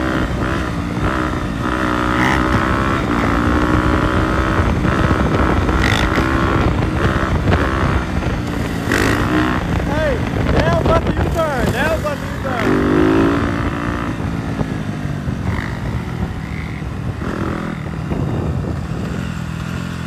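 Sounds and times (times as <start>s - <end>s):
dirt bike engines running: 0.0s - 20.0s
wind rushing over microphone: 0.0s - 20.0s.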